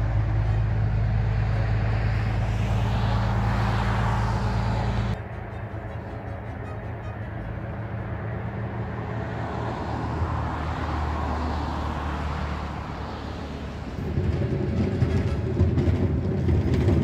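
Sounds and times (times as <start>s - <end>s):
car driving past: 0.0s - 15.6s.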